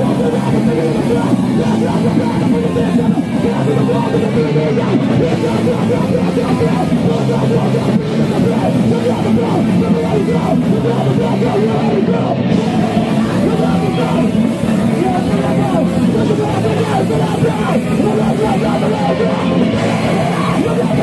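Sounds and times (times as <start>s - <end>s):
live band playing heavy rock: 0.0s - 21.0s.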